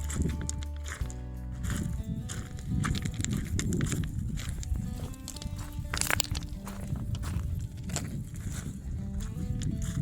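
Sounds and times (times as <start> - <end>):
background music: 0.0 - 10.0
footsteps on dirt trail: 0.0 - 10.0.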